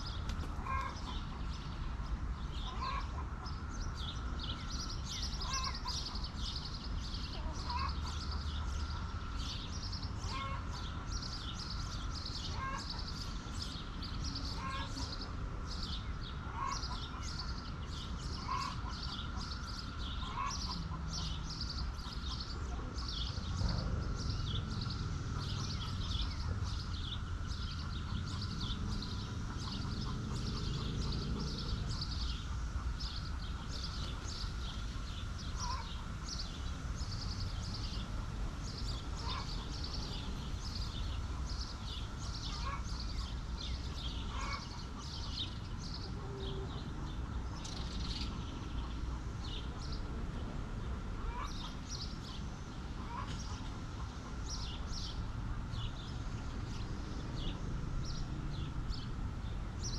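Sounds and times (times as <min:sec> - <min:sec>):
chickens calling: 0:00.0 - 0:50.5, 0:51.2 - 0:55.0.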